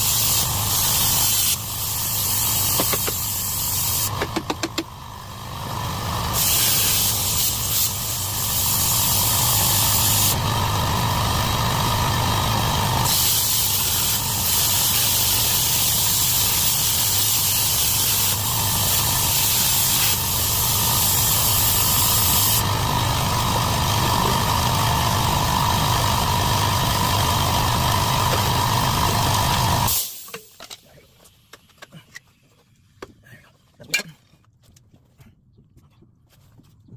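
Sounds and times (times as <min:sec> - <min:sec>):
power tool cutting steel: 0:00.0 - 0:30.3.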